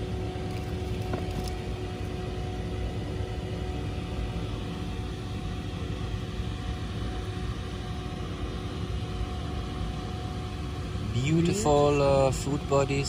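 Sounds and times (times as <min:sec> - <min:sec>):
faint constant hum: 0:00.0 - 0:13.0
low machine rumble: 0:00.0 - 0:13.0.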